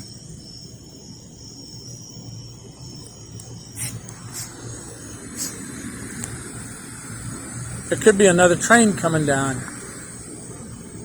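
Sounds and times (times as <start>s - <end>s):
high-pitched whine: 0.0s - 11.0s
low steady hum: 0.0s - 11.0s.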